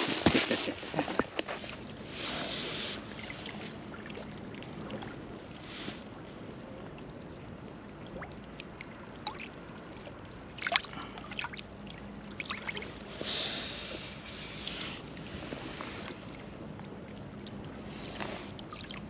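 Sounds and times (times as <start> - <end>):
water lapping over rocks: 0.0 - 19.0.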